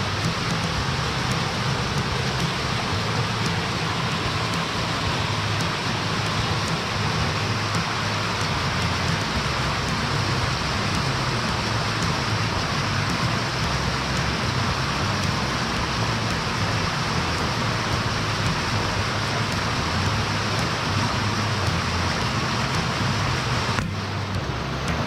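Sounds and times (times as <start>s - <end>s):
floodwater rushing in river: 0.0s - 25.0s.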